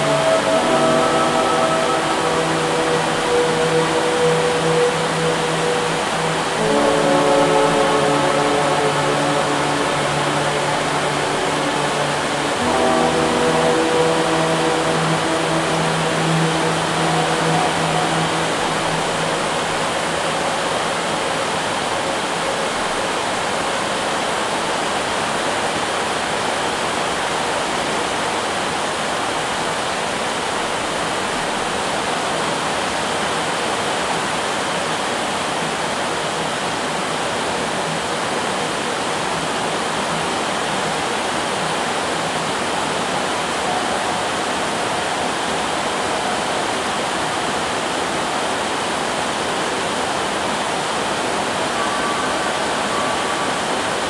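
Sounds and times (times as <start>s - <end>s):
heavy rain on metal roof: 0.0s - 54.0s.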